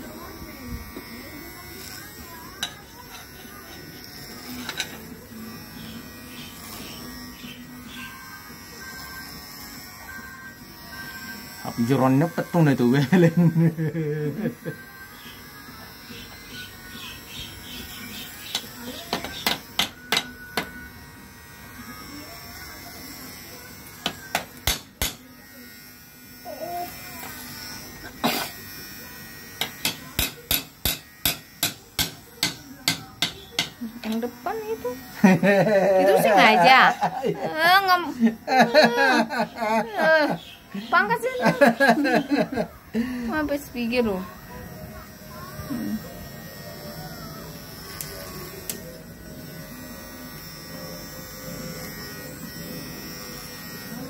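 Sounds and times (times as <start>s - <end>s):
electric hair clipper buzzing: 0.0s - 54.0s.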